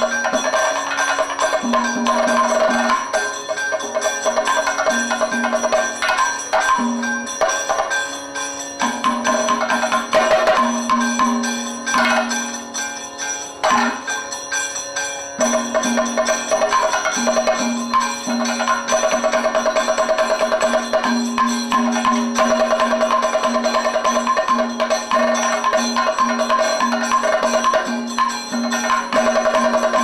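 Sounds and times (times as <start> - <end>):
drums: 0.0 - 8.1, 8.8 - 12.8, 15.4 - 30.0
hand cymbals: 0.0 - 30.0.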